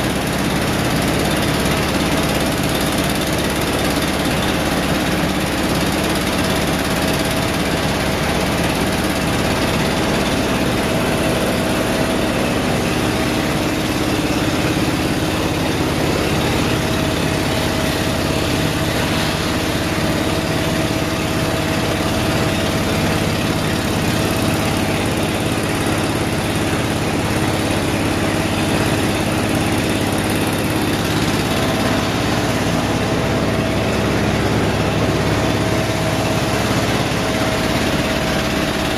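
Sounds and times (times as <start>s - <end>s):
factory machinery drone: 0.0s - 38.9s.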